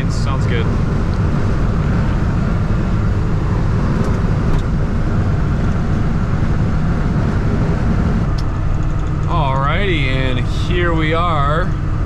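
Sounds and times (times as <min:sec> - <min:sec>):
road and engine noise inside vehicle: 0:00.0 - 0:12.0.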